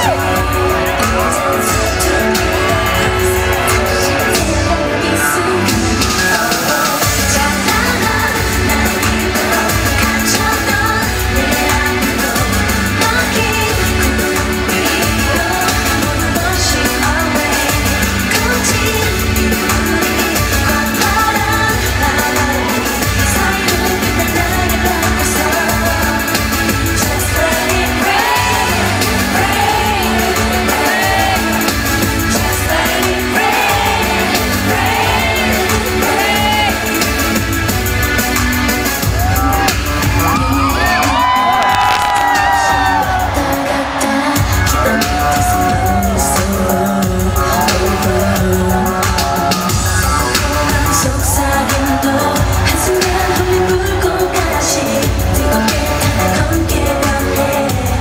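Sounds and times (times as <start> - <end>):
woman singing into microphone: 0.0 - 38.0, 39.0 - 58.0
loud backing music: 0.0 - 58.0.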